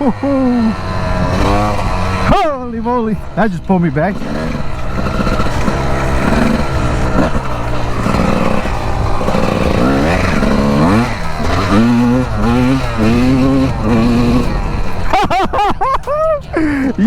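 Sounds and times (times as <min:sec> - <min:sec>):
two-stroke dirt bike engine revving: 0:00.0 - 0:17.0.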